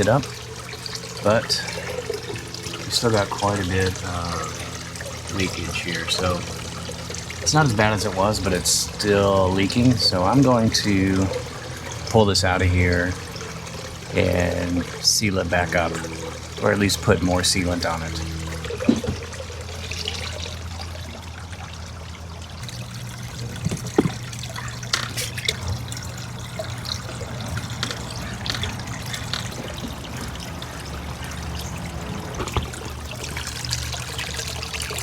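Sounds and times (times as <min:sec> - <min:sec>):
low steady hum: 0:00.0 - 0:35.0
water trickling and splashing: 0:00.0 - 0:35.0.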